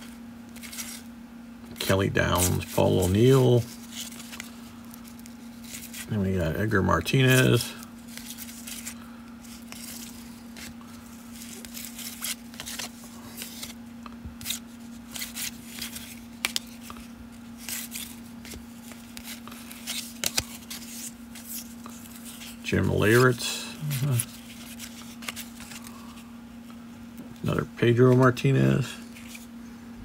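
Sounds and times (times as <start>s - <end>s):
trading cards being flipped: 0.0s - 1.1s, 1.7s - 6.1s, 7.1s - 26.8s, 29.0s - 29.5s
steady low hum: 0.0s - 30.0s.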